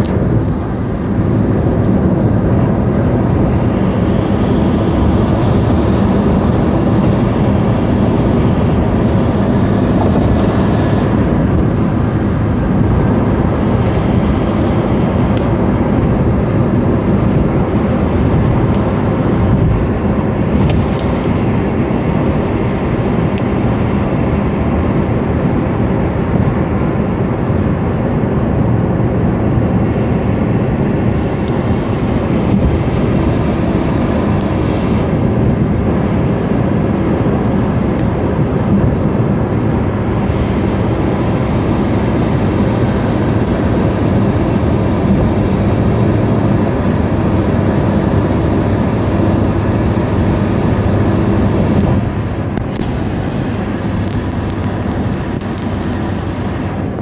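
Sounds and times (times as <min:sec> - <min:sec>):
car engine running: 0:00.0 - 0:57.0
tyres on road: 0:00.0 - 0:57.0.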